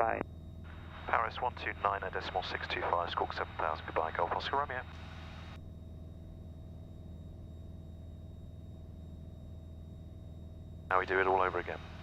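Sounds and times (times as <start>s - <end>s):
light aircraft engine droning: 0.0s - 9.8s, 10.4s - 12.0s
faint steady whine: 0.0s - 12.0s.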